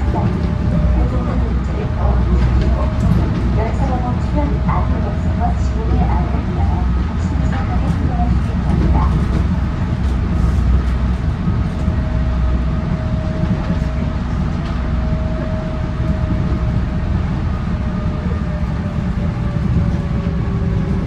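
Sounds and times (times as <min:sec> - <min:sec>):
train running gear rumble: 0:00.0 - 0:21.0.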